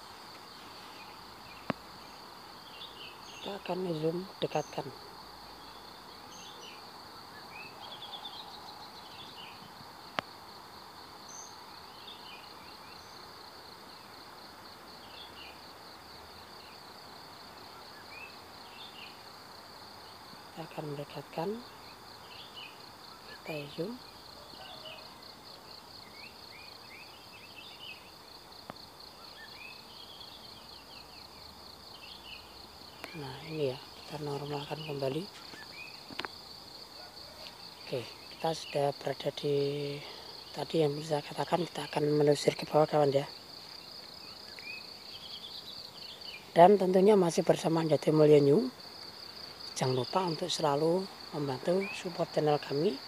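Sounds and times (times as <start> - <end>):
pulsing insect trill: 0.0 - 53.0.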